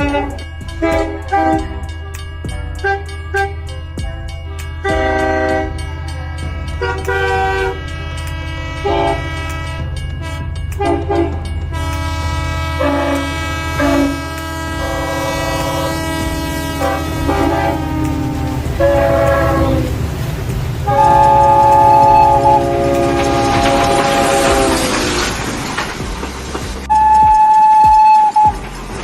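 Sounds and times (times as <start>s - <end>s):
train horn blasts: 0.0s - 26.0s, 26.9s - 28.7s
low rumble of running train: 0.0s - 29.0s.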